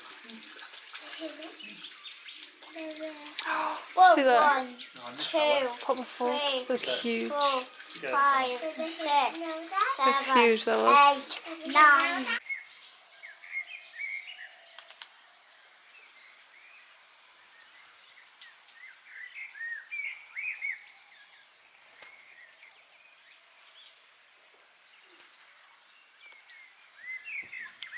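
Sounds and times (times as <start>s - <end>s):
faint outdoor background noise: 0.0s - 27.9s
small birds chirping: 0.0s - 27.9s.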